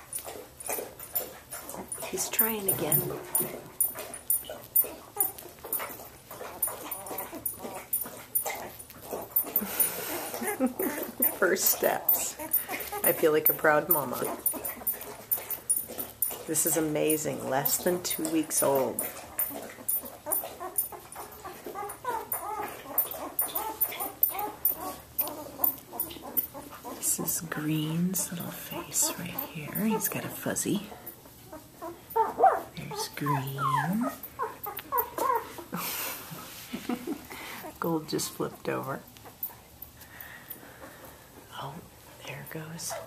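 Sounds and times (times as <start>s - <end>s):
puppies whimpering and squeaking: 0.0s - 36.3s, 36.9s - 41.3s.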